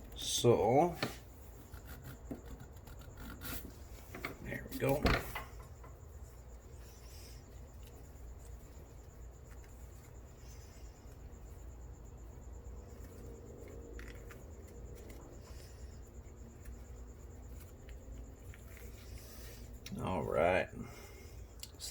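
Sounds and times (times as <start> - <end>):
low steady hum: 0.0 - 21.9
faint clicks and rubs: 1.0 - 19.9.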